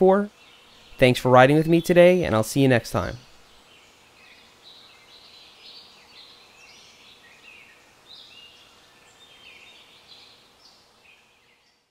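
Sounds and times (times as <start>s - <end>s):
birds chirping: 0.0s - 11.9s
faint background hiss: 0.0s - 11.9s.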